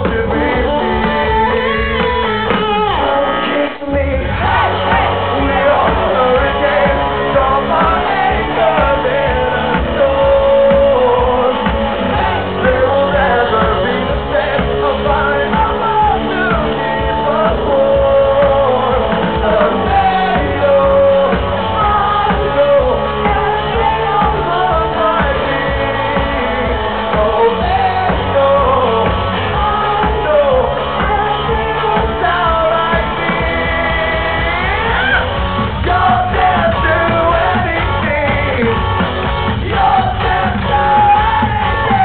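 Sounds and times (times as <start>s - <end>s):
man singing: 0.0s - 42.0s
rock band playing live: 0.0s - 42.0s.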